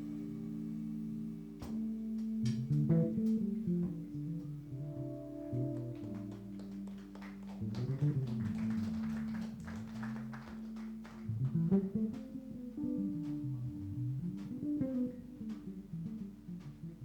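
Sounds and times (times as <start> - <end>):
plucked bass line: 0.0 - 6.6, 7.5 - 17.0
keyboard chords: 0.0 - 17.0.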